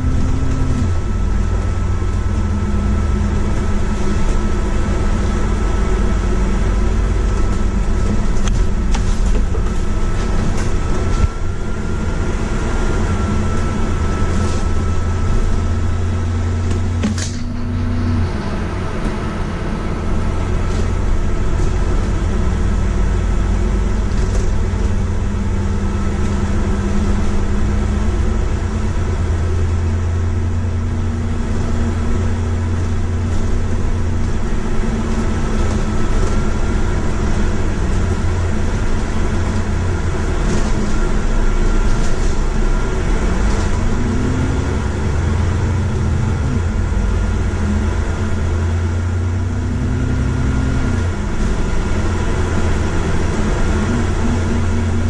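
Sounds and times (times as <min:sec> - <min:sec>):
bus engine hum: 0:00.0 - 0:55.0
high drivetrain whine: 0:00.0 - 0:55.0.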